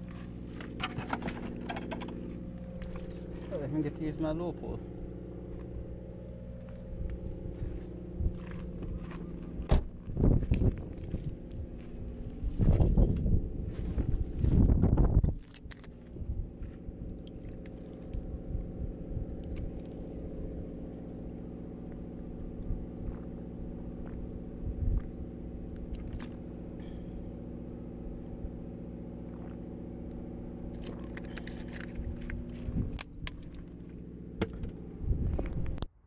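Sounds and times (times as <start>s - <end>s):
car engine idling: 0.0s - 35.8s.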